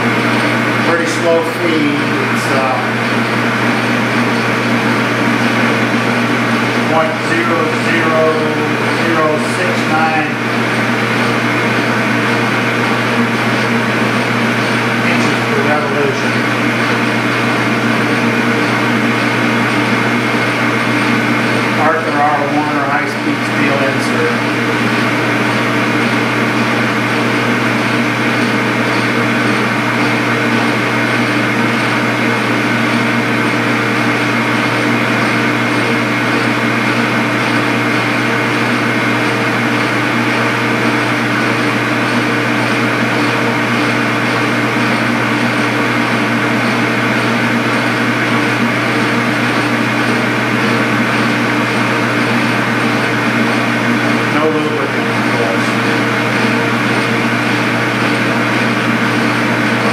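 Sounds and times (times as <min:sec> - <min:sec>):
metal lathe hum and whine: 0:00.0 - 0:59.9.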